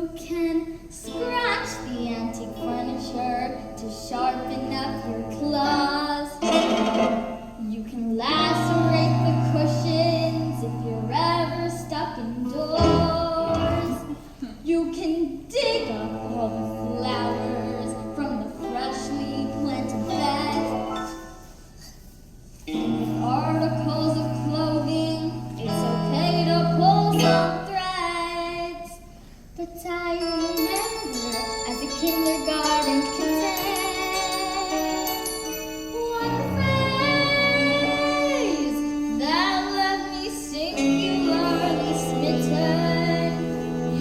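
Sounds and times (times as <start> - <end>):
child singing: 0.0 - 6.4, 7.6 - 21.0, 22.8 - 29.0, 29.6 - 44.0
musical backing track: 0.0 - 44.0.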